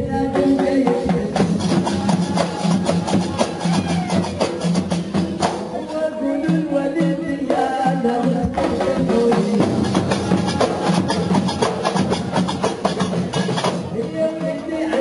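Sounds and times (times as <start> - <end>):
frame drums beating fast rhythm: 0.0 - 15.0
men chanting together: 0.1 - 15.0.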